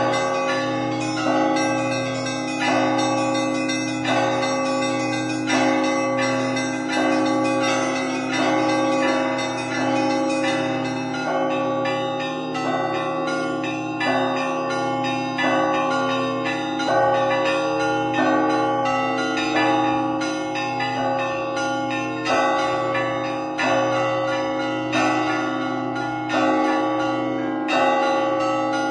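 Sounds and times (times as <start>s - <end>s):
deep bells ringing: 0.0s - 28.9s
small church bells chiming: 0.0s - 28.9s.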